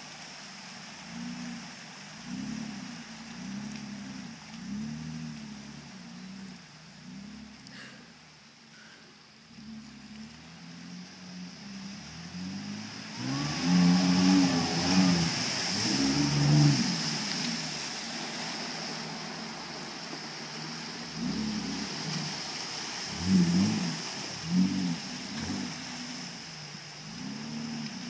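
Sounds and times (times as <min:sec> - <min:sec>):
truck engine revving: 0:00.0 - 0:08.0, 0:09.5 - 0:28.0
steady hiss: 0:00.0 - 0:28.0.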